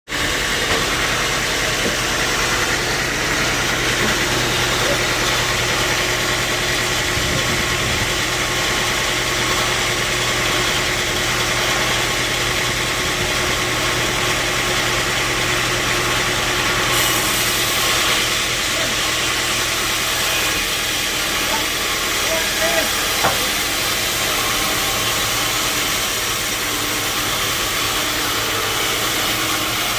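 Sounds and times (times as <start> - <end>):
sawmill machinery running: 0.1 - 29.9.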